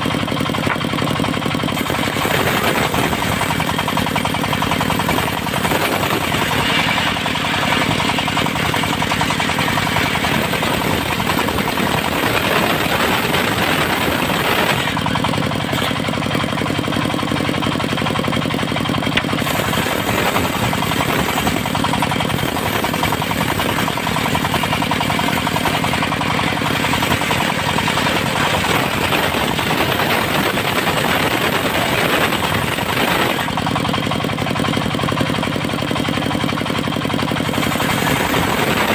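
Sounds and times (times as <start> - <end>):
circular saw cutting wood: 0.0 - 18.2, 19.0 - 33.7, 37.5 - 38.9
diesel engine pulsing: 0.0 - 38.9.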